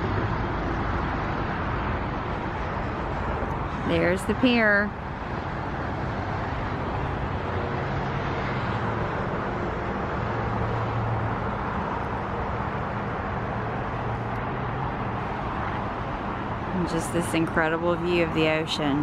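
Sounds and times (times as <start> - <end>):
highway traffic rushing: 0.0 - 19.0.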